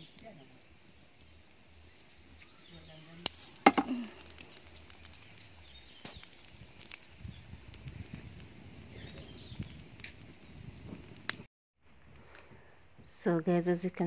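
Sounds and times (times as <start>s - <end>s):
fire snapping: 0.0s - 13.2s
firewood fire crackling: 0.0s - 14.0s.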